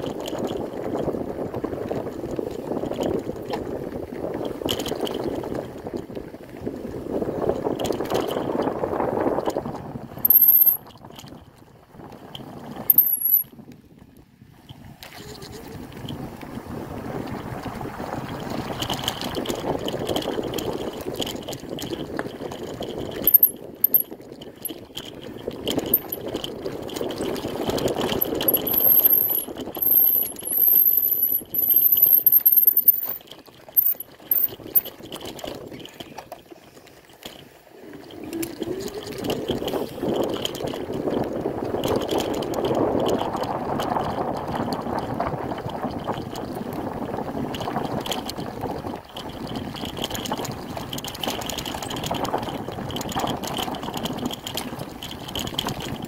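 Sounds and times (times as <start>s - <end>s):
wheels crunching on gravel trail: 0.0s - 56.0s
wind noise on microphone: 0.0s - 56.0s.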